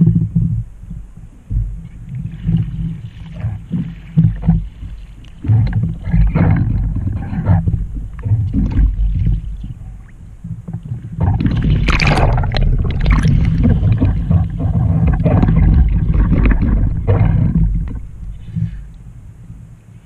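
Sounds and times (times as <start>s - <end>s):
water splashing and gurgling: 0.0s - 19.6s
low water rumble on microphone: 0.0s - 20.0s.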